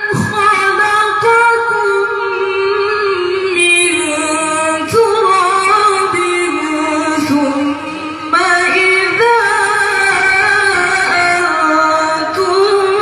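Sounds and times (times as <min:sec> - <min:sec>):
woman reciting melodically: 0:00.0 - 0:13.0.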